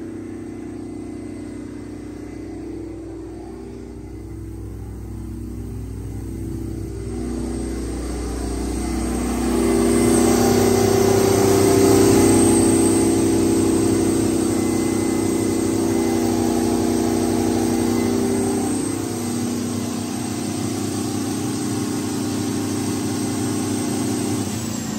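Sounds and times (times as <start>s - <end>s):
diesel generator running: 0.0s - 24.9s.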